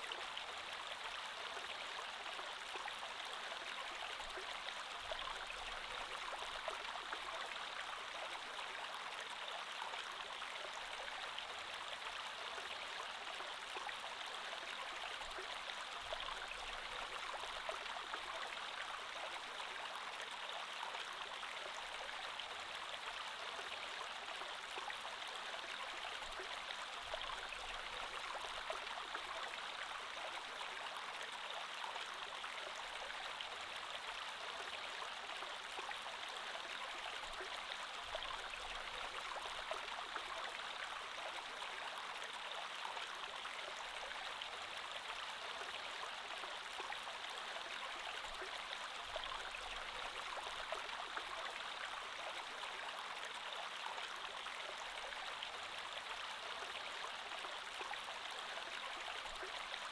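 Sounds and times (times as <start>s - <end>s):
creek water over stones: 0.0s - 59.9s.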